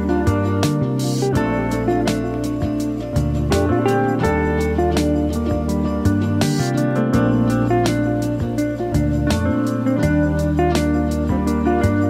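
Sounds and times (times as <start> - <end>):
plucked guitar music with beat: 0.0 - 12.0.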